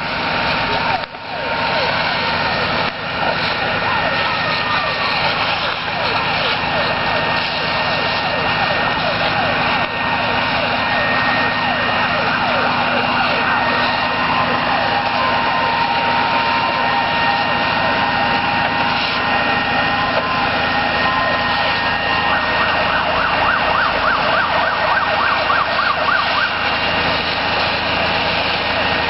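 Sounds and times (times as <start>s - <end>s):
fire engine sirens: 0.0s - 29.0s
truck engines running: 0.0s - 29.0s.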